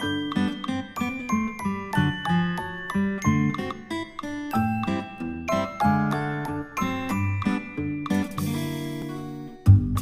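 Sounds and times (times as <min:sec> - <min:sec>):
bright instrumental tune: 0:00.0 - 0:10.0.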